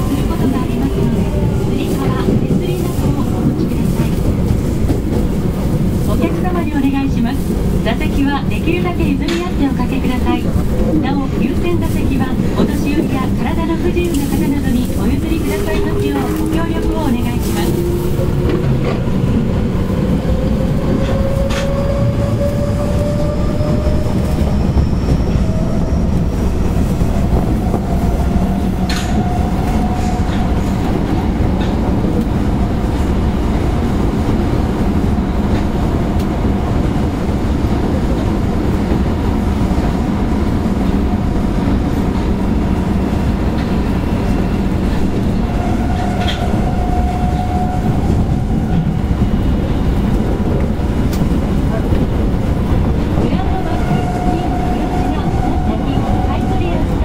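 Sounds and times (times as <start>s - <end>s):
rail joint clicks: 0.0s - 57.0s
wheels rumbling on rail: 0.0s - 57.0s.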